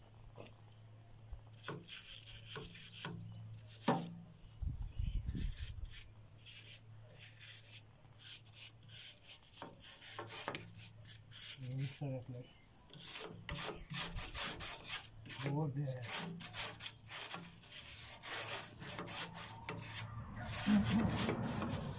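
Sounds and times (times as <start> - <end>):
sandpaper scratching on metal: 1.5 - 4.0, 5.3 - 12.2, 12.9 - 21.9.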